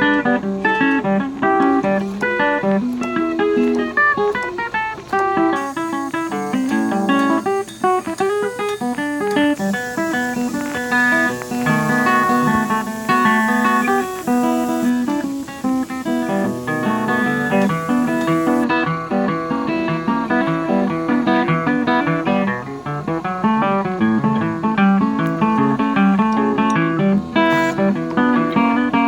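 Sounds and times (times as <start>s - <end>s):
picked acoustic guitar music: 0.0s - 29.0s.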